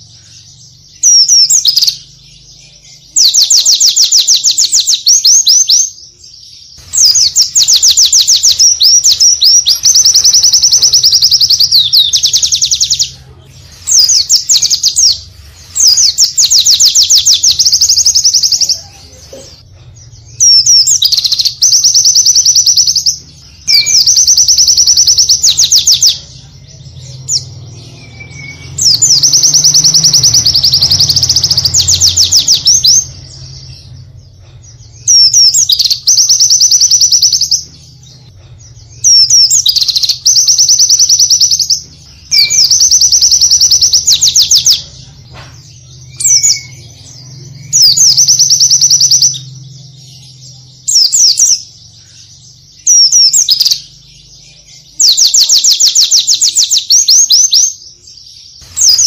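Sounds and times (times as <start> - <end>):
bird singing high trills: 0.0 - 13.2, 13.8 - 19.2, 20.0 - 34.1, 34.8 - 45.1, 45.7 - 59.0.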